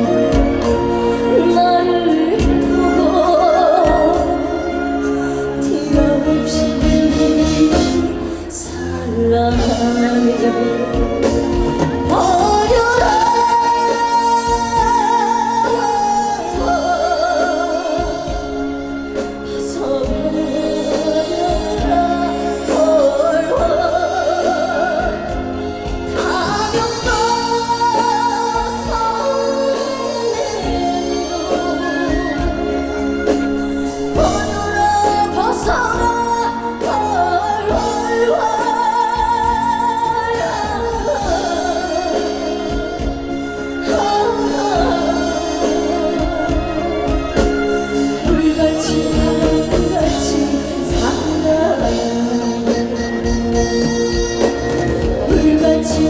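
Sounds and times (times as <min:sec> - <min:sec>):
band accompaniment: 0:00.0 - 0:56.0
woman singing with heavy vibrato: 0:00.0 - 0:56.0.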